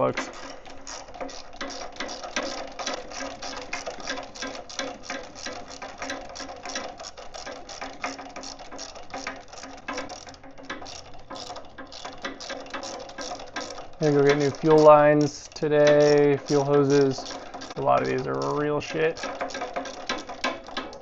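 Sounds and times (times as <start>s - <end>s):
ratchet wrench clicking: 0.0s - 21.0s.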